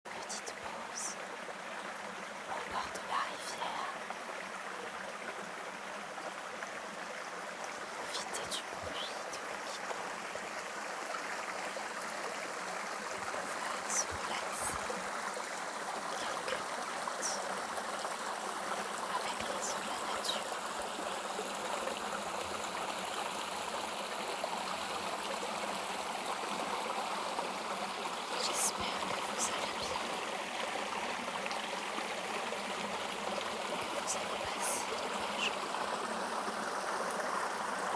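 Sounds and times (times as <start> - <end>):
river water flowing over stones: 0.1 - 37.9.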